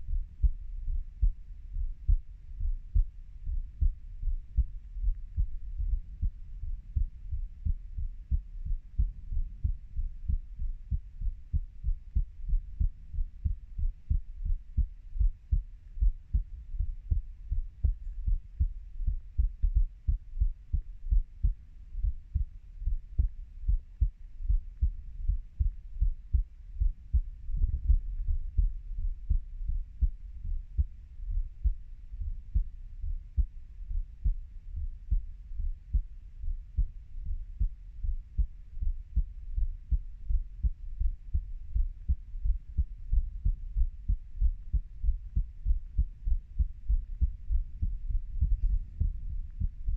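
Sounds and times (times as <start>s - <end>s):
heartbeat thumps: 0.0s - 49.9s.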